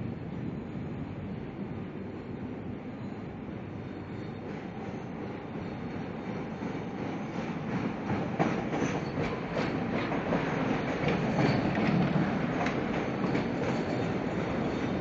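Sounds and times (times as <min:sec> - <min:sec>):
train rumbling on elevated track: 0:00.0 - 0:15.0.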